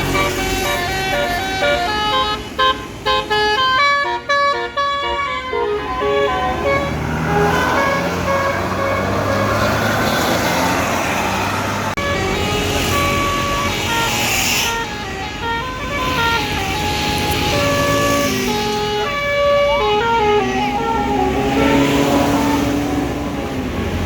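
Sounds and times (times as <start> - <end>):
bus melody horn playing a tune: 0.0 - 10.6, 11.8 - 23.8
bus engine running: 0.0 - 24.0
passing traffic: 0.0 - 24.0.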